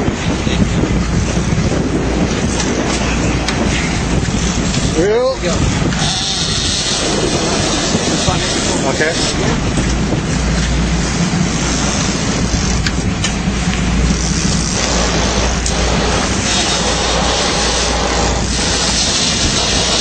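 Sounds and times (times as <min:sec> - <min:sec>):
boat engine drone: 0:00.0 - 0:20.0
rushing wind and water: 0:00.0 - 0:20.0.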